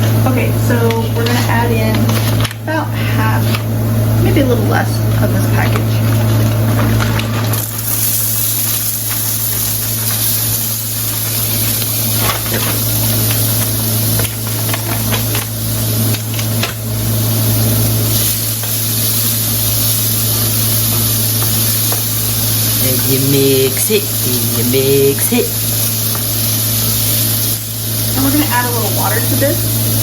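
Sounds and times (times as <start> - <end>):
food sizzling in a frying pan: 0.0 - 30.0
steady low hum: 0.0 - 30.0.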